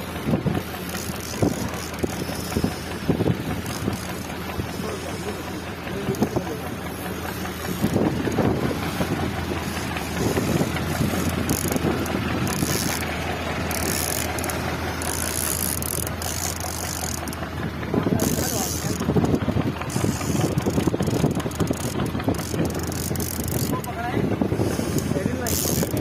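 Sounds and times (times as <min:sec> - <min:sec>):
boat engine running: 0:00.0 - 0:26.0
fishing reel whirring: 0:00.0 - 0:26.0
rushing water: 0:00.0 - 0:26.0
wind: 0:00.0 - 0:26.0.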